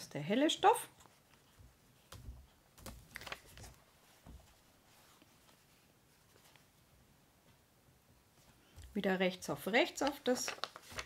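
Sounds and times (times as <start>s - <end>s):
fabric and paper rustling: 0.0s - 7.6s, 8.3s - 11.0s.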